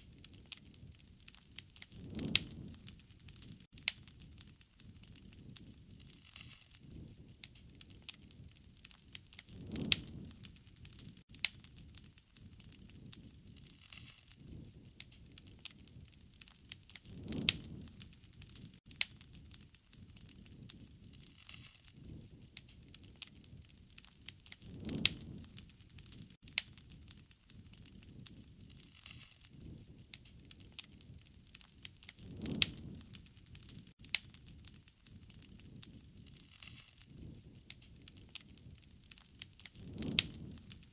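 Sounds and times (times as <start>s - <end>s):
soft whoosh of flames: 0.0s - 40.9s
wood fire crackling and popping: 0.0s - 40.9s.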